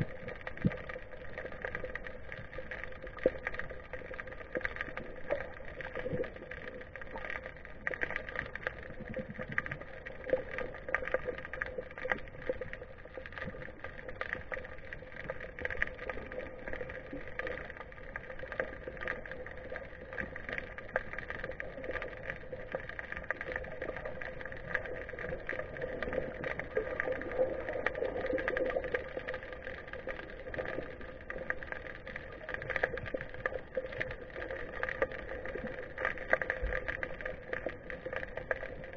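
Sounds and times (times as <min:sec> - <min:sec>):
muffled underwater hum: 0:00.0 - 0:38.9
small crackling clicks: 0:00.0 - 0:38.9.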